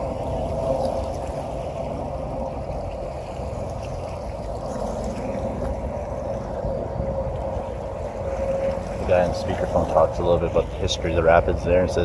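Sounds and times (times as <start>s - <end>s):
boat engine hum: 0.0s - 12.0s
water rushing: 0.0s - 12.0s
wind: 0.0s - 12.0s.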